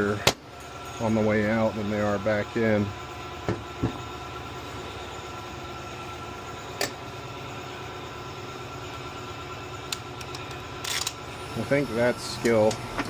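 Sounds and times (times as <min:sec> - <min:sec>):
faint steady whine: 0:00.0 - 0:13.0
mechanical background hum: 0:00.0 - 0:13.0.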